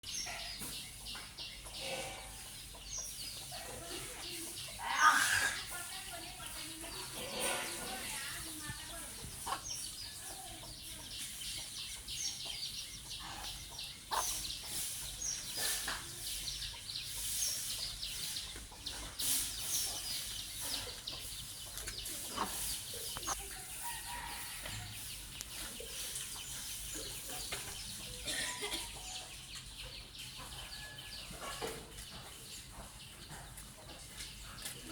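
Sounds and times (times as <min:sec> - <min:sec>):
chickens clucking: 0:00.0 - 0:34.9
small birds chirping: 0:00.0 - 0:34.9.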